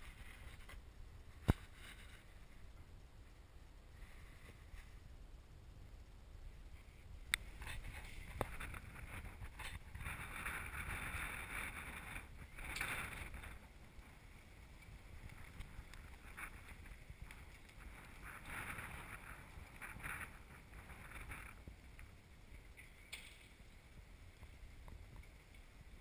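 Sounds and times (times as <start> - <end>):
faint low rumble: 0.0 - 26.0
wind noise: 0.0 - 26.0.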